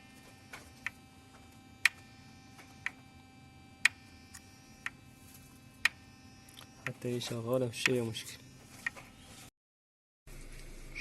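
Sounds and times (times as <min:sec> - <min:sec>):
faint steady hum: 0:00.0 - 0:09.5, 0:10.3 - 0:11.0.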